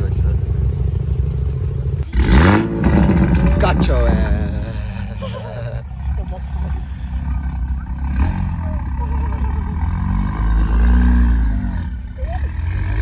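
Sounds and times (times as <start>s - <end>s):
car engine exhaust rumble: 0.0s - 13.0s
engine revving: 0.0s - 13.0s.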